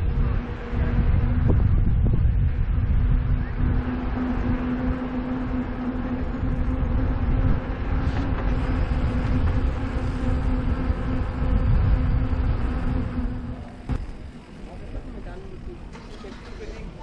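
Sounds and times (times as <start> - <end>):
droning motor hum: 0.0 - 15.9
bike rolling noise: 0.0 - 17.0
wind buffeting: 0.0 - 17.0.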